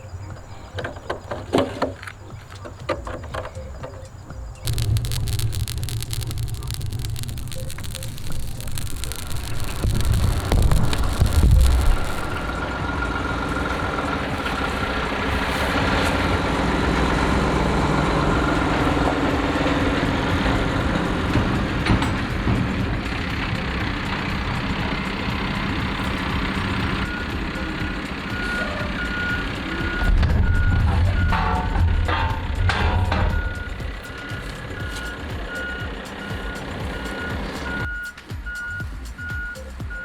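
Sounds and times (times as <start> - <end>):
diesel vehicle engine: 0.0 - 38.0
reversing alarm beeping: 3.6 - 15.2, 15.8 - 40.0.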